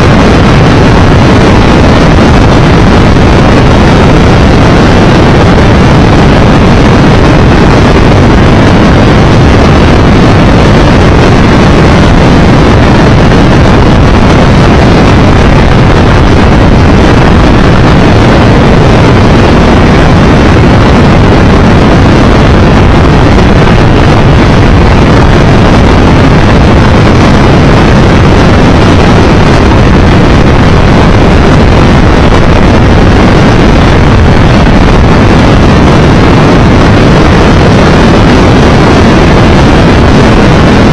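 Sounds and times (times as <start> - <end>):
motorcycle road noise: 0.0 - 40.9
wind rush on microphone: 0.0 - 40.9.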